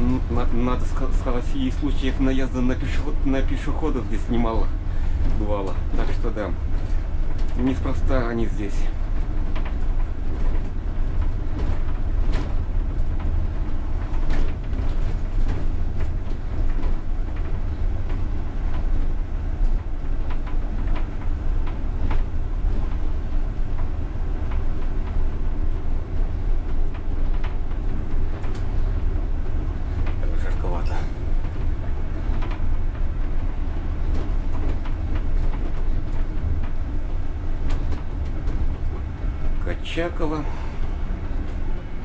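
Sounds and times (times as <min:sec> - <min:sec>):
knocks and rattles: 0:00.0 - 0:42.0
trolleybus rumble and hum: 0:00.0 - 0:42.0.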